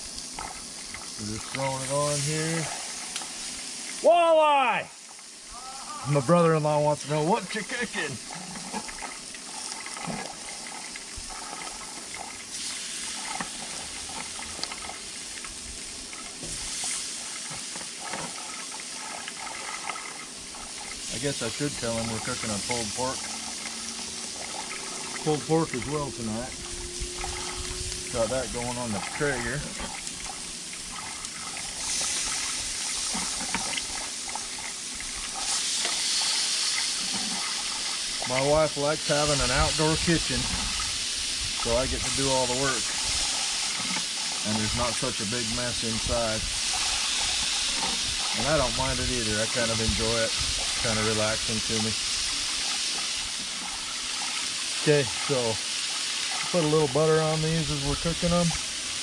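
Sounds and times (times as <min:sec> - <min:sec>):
fish sizzling on a griddle: 0:00.0 - 0:10.3, 0:12.0 - 0:19.0, 0:20.3 - 0:25.7, 0:27.9 - 0:59.0.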